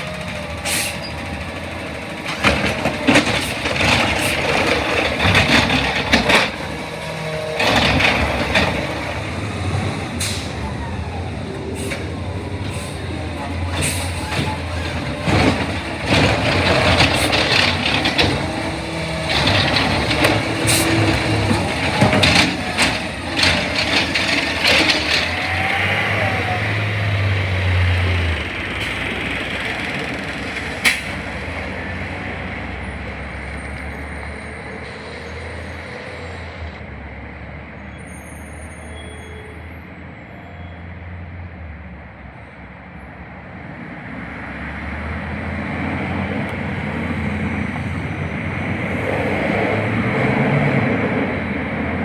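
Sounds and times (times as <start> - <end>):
garbage truck diesel engine: 0.0 - 52.0.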